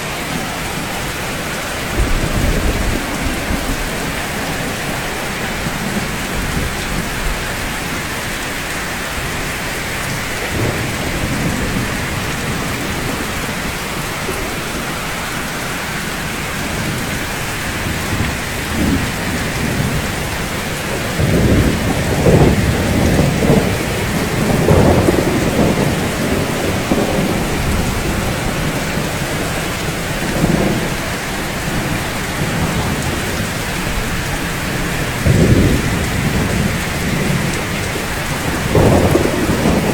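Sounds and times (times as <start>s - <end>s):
low rolling thunder: 0.0s - 39.9s
steady rain falling: 0.0s - 39.9s.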